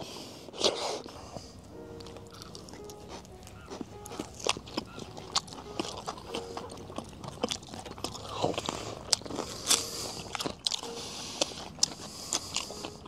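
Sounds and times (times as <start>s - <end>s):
people biting and chewing meat: 0.0s - 13.0s.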